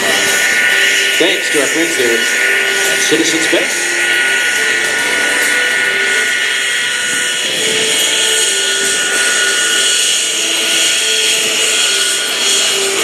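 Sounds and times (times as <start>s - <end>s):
jet engine whining: 0.0s - 13.0s.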